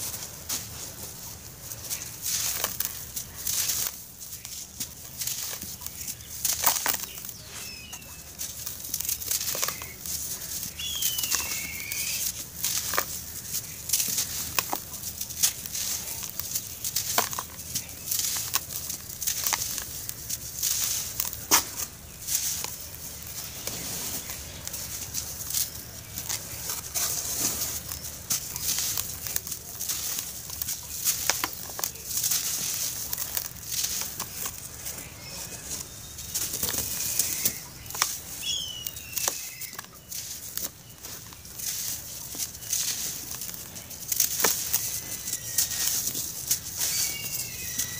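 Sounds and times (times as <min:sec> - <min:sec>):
crumbly chunks crushed by hand: 0:00.0 - 0:47.9
grit trickling: 0:00.0 - 0:47.9.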